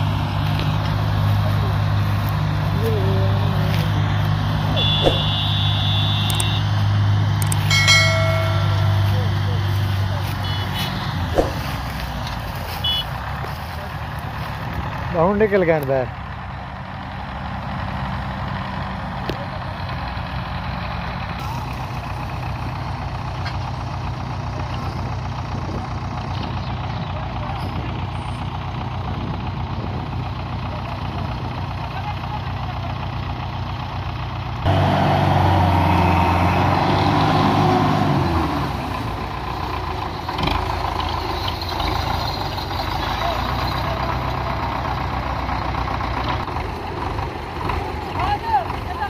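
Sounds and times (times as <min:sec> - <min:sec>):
hard-working engine: 0:00.0 - 0:49.0
tractor diesel engines running: 0:00.0 - 0:49.0.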